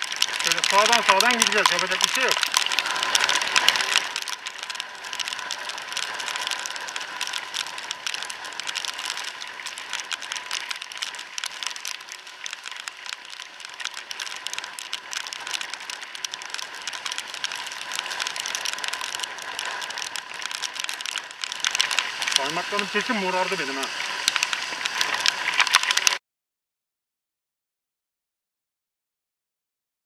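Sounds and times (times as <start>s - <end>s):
rain tapping on camera: 0.0s - 26.2s.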